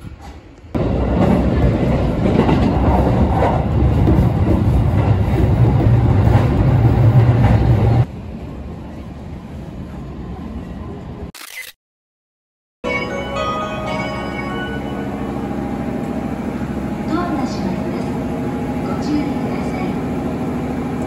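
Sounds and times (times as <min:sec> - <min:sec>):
electric train hum: 0:00.0 - 0:11.3, 0:12.8 - 0:21.0.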